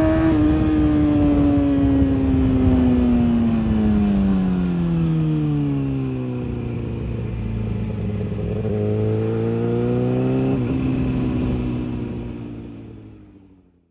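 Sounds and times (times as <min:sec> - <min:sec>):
motorcycle engine through exhaust: 0:00.0 - 0:13.2.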